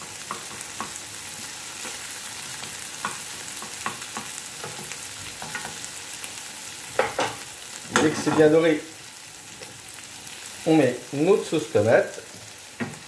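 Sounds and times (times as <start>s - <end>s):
meatballs sizzling in oil: 0.0s - 13.0s.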